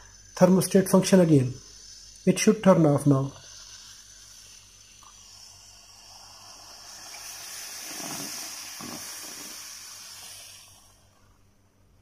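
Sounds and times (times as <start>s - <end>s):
steam iron sputtering: 0.0s - 11.3s
steam iron hissing: 0.0s - 11.4s.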